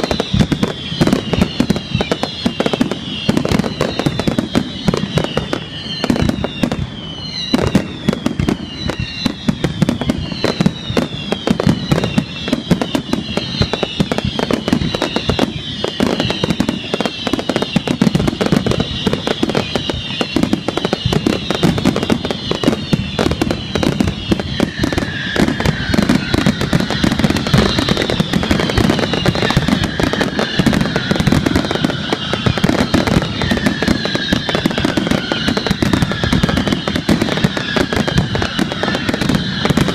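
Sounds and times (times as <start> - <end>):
fireworks bangs and crackling: 0.0 - 39.9
whistling fireworks: 0.0 - 39.9.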